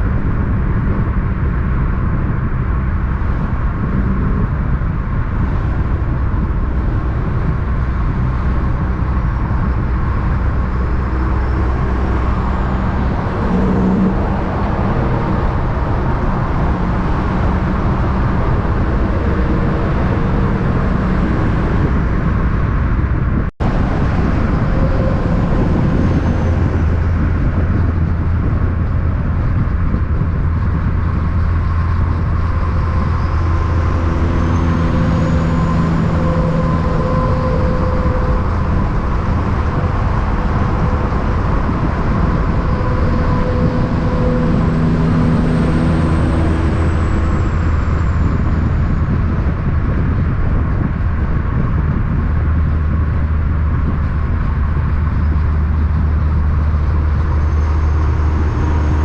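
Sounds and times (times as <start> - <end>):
heavy truck engines droning: 0.0 - 59.0
low engine drone: 0.0 - 59.0.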